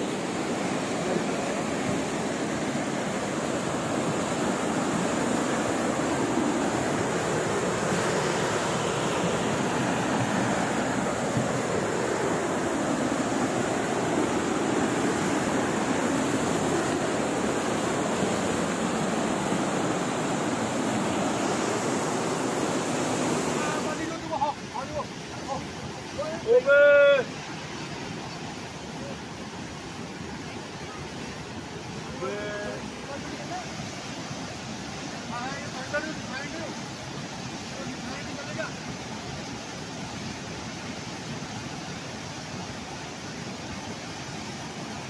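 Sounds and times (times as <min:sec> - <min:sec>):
rushing floodwater: 0:00.0 - 0:45.0.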